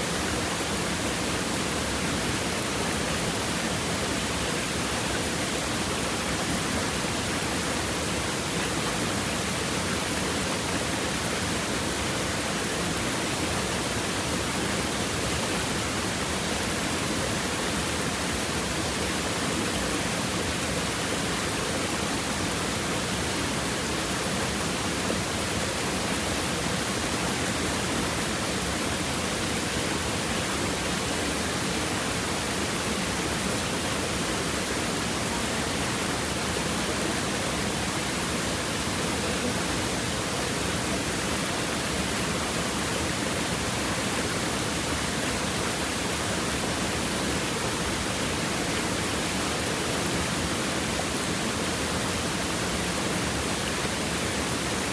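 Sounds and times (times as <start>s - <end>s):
stream babbling over rocks: 0.1s - 54.9s.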